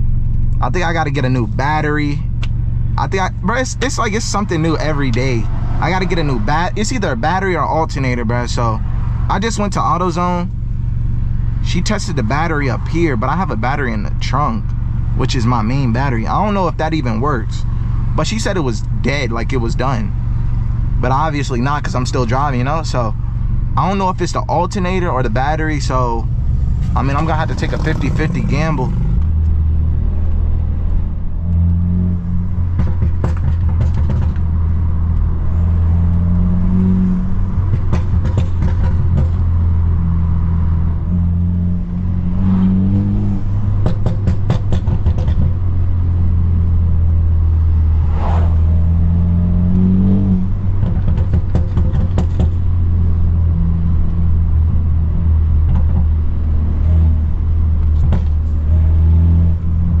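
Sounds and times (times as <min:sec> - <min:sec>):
car engine droning and revving: 0:00.0 - 1:00.0
exhaust cracks: 0:00.0 - 1:00.0.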